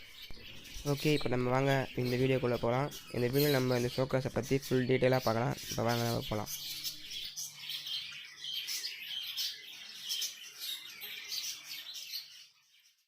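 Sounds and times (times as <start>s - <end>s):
budgies chirping and chattering: 0.0s - 13.0s.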